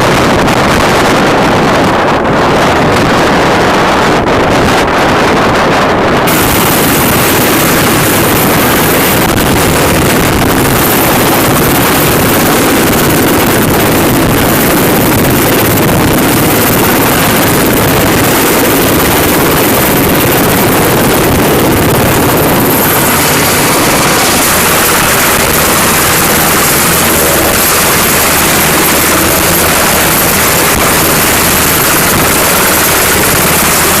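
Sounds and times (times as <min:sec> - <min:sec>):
aircraft engines roaring: 0:00.0 - 0:34.0
high whine: 0:00.0 - 0:34.0.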